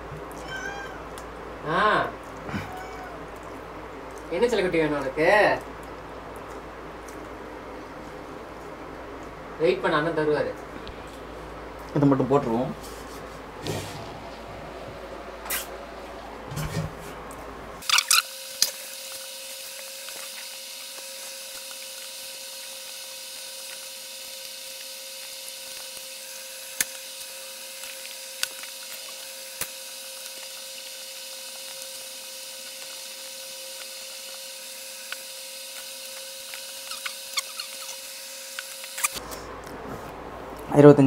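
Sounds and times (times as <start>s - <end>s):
background hum: 0.0s - 41.0s.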